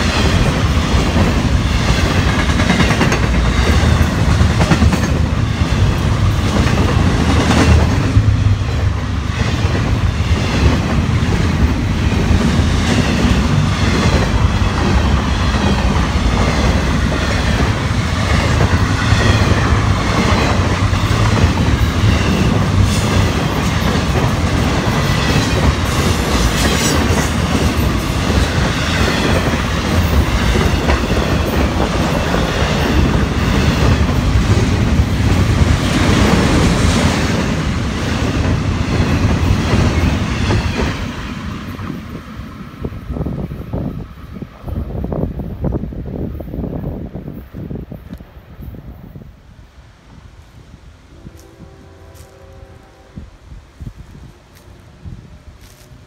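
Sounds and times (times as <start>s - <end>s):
freight train cars rolling: 0.0s - 48.8s.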